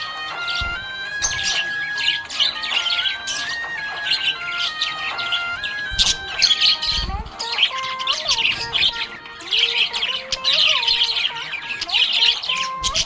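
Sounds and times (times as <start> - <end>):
budgie chirping and warbling: 0.2 - 13.0.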